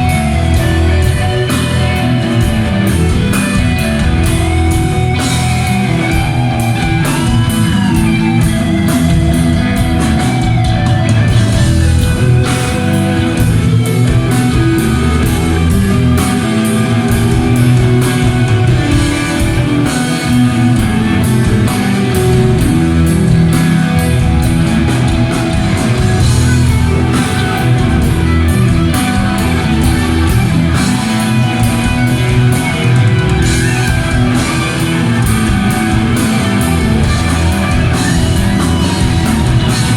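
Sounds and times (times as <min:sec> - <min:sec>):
distorted electric guitar: 0:00.0 - 0:39.9
driving drum beat: 0:00.0 - 0:39.9
heavy metal band playing live: 0:00.0 - 0:39.9.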